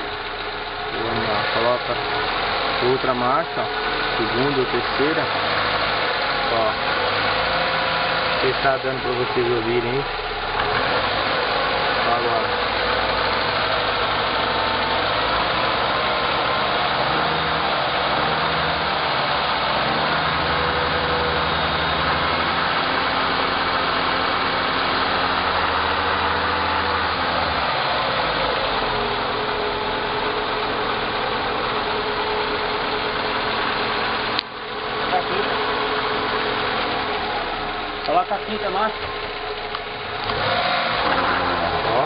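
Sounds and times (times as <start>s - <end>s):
car drivetrain hum: 0.0s - 42.0s.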